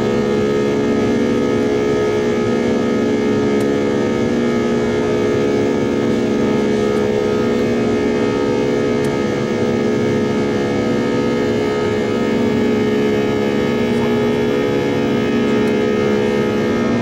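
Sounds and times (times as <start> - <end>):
jet engine drone in cabin: 0.0 - 17.0.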